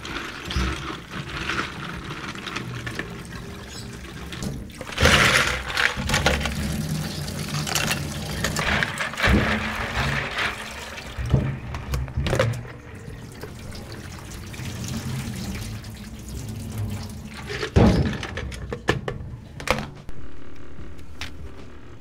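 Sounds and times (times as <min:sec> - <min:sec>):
tap water running: 0:00.0 - 0:19.1.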